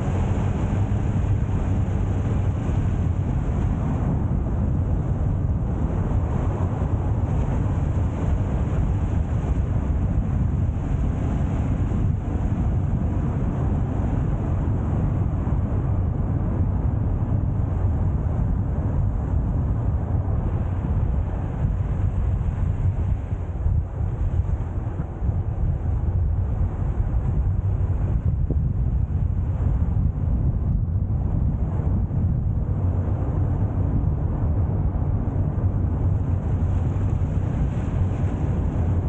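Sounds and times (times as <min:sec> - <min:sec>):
car engine and tyre rumble: 0:00.0 - 0:39.0
wind buffeting microphone: 0:00.0 - 0:39.0.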